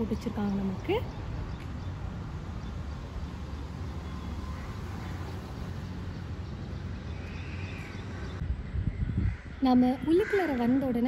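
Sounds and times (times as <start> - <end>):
low rumble of road traffic: 0.0 - 11.0.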